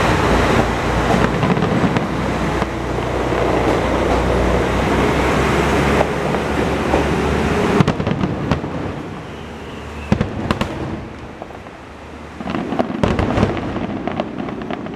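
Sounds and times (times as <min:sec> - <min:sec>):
diesel railcar rumble: 0:00.0 - 0:14.9
distant fireworks bangs and crackles: 0:00.0 - 0:14.9.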